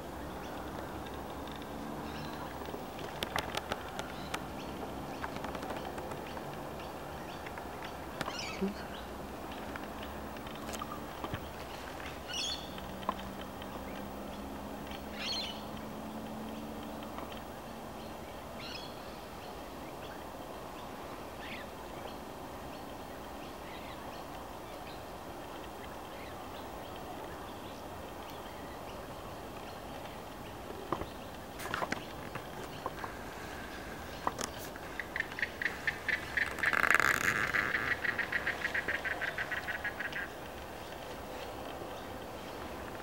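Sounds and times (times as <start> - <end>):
wild birds calling: 0.0 - 43.0.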